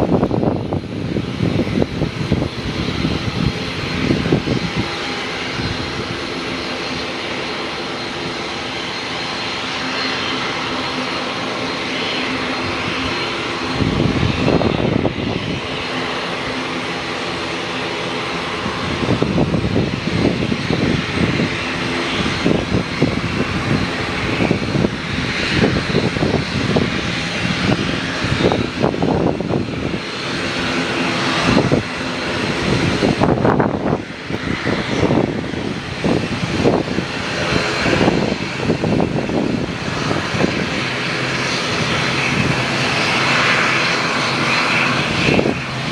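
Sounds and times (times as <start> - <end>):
aircraft engine running: 0.0 - 45.9
wind buffeting microphone: 0.0 - 45.9.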